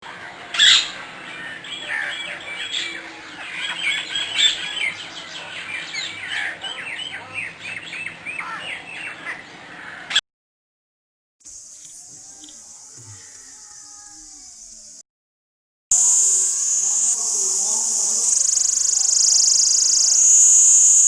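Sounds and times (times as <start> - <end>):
birds chirping: 0.0 - 10.2, 11.5 - 15.0, 15.9 - 21.0.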